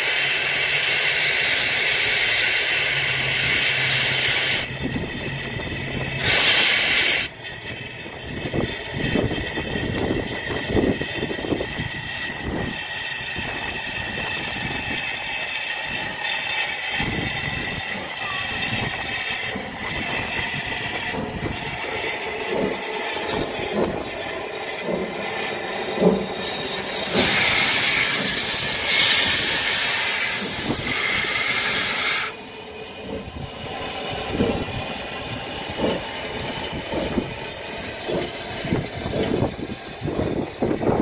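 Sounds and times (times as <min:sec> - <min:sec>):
steam hissing: 0:00.0 - 0:41.0.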